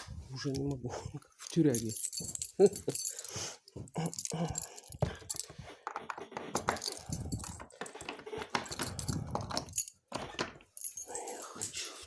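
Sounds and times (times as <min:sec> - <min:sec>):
handling rustling: 0:00.3 - 0:10.1
light clicks and clinks: 0:00.4 - 0:05.7, 0:06.6 - 0:12.0.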